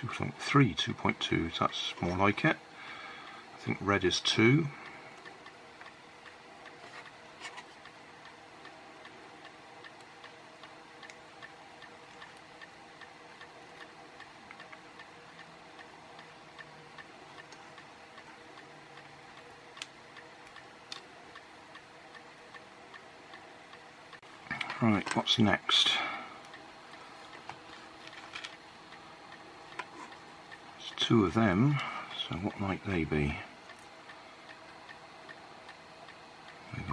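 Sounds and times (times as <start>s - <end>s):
fan humming: 0.0s - 36.9s
steady even ticking: 0.0s - 36.9s.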